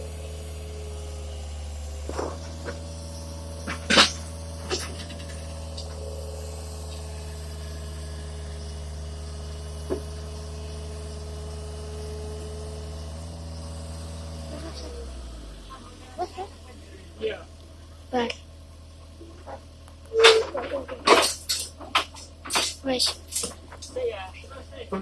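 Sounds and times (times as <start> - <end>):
heavy machinery engine idling: 0.0 - 25.0.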